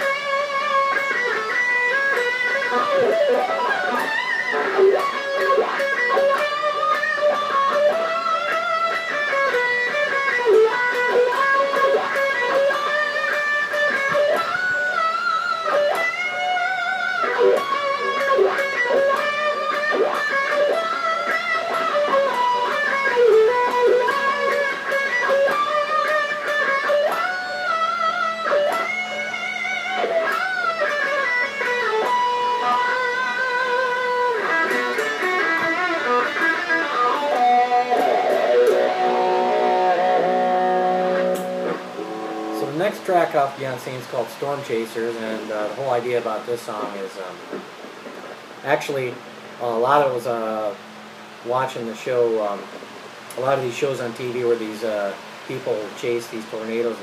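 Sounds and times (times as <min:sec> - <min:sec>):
electric guitar melody: 0:00.0 - 0:57.0.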